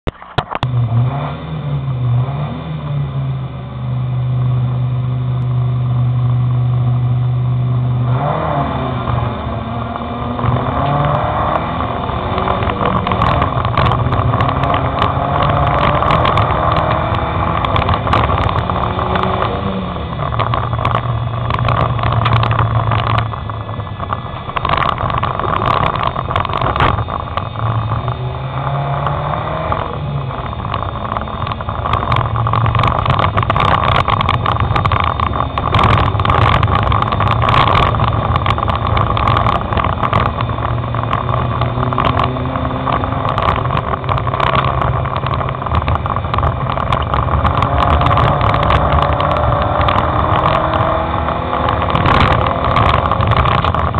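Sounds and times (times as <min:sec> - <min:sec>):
race car engine revving: 0:00.4 - 0:53.9.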